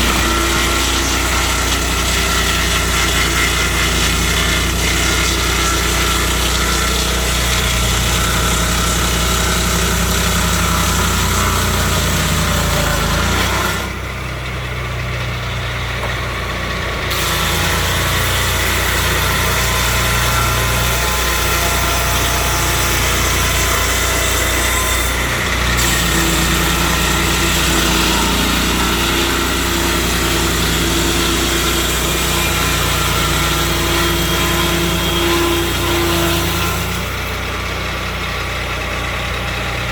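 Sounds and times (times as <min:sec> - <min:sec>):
sawmill petrol engine running: 0:00.0 - 0:39.9.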